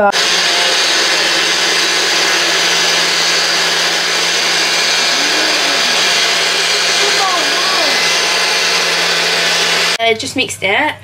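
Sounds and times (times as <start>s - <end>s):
blender whirring: 0.0s - 10.0s.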